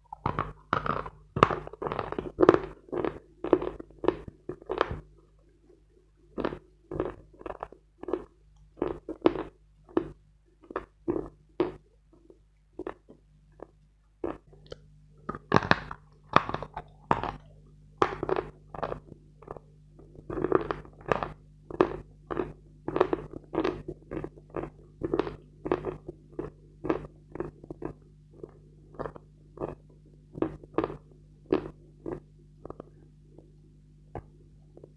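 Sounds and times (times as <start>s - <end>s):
chewing chalk crunches: 0.1s - 5.1s, 6.4s - 33.6s, 34.2s - 34.9s.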